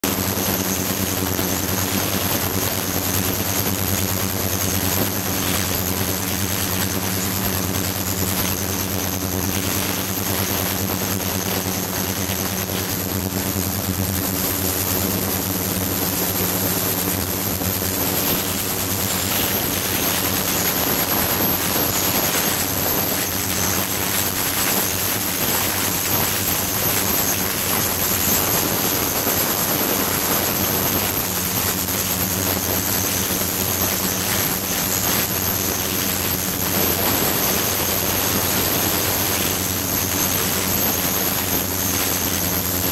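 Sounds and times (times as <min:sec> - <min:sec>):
ultrasonic cleaner humming and whining: 0:00.0 - 0:42.9.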